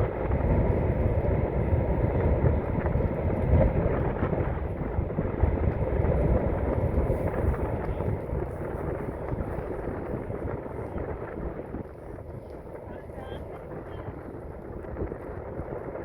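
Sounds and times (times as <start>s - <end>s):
wind buffeting the microphone: 0.0s - 16.0s.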